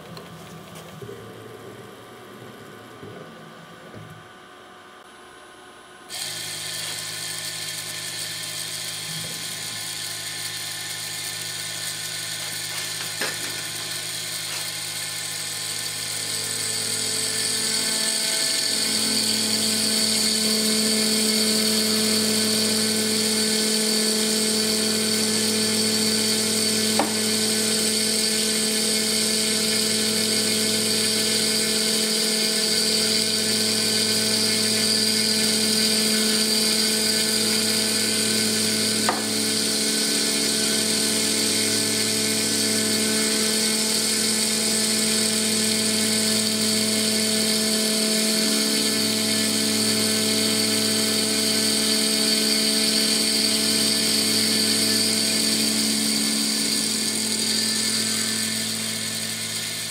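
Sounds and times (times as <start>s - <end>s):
milling spindle whining: 6.1s - 59.9s.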